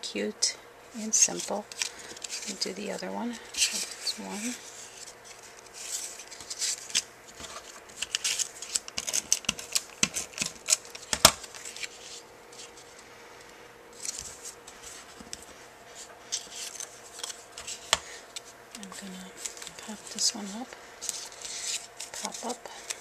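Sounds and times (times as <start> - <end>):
paper clicks and rustles: 1.2 - 13.0, 14.0 - 23.0.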